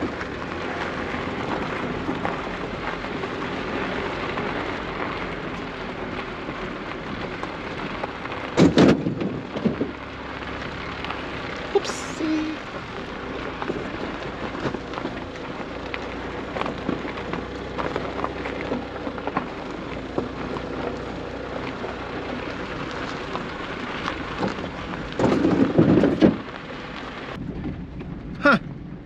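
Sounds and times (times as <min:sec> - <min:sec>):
tyres crunching over gravel: 0:00.0 - 0:28.6.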